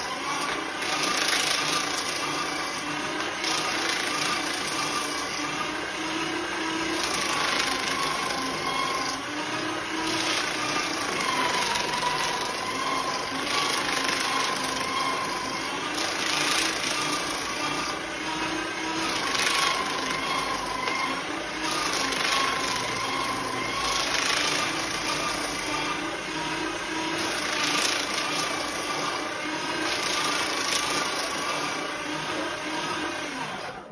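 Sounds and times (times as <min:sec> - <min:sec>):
paper shredder cutting paper: 0:00.0 - 0:33.9.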